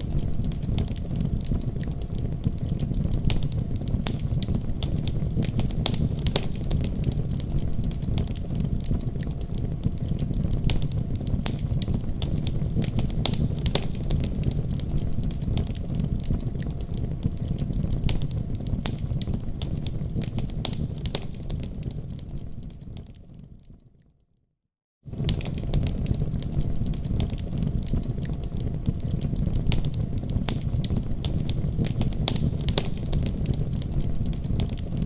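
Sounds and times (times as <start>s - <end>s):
low rush of flames: 0.0s - 23.2s, 25.1s - 35.0s
fire crackles and pops: 0.0s - 24.1s, 25.1s - 35.0s.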